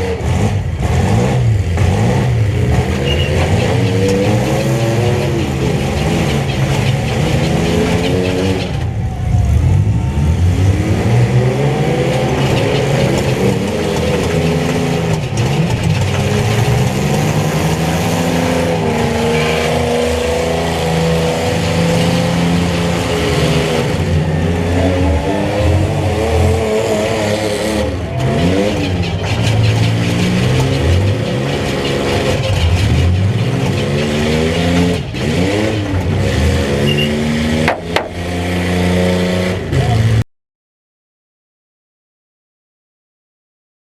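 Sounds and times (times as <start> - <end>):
truck engines revving hard: 0.0 - 40.2.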